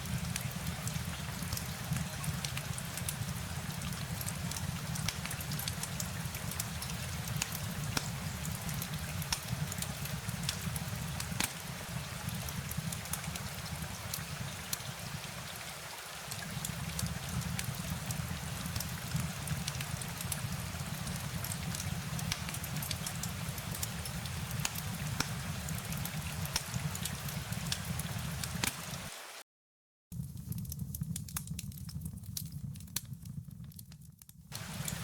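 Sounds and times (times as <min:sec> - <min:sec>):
steady rain: 0:00.0 - 0:29.4, 0:34.5 - 0:35.0.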